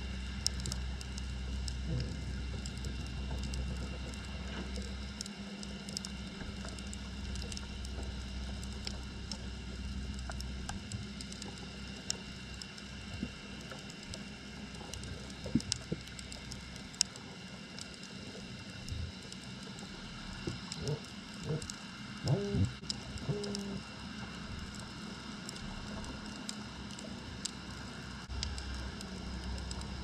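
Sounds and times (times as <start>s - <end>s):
faint crackle of clicks: 0.0s - 30.0s
steady low underwater hum: 0.0s - 30.0s.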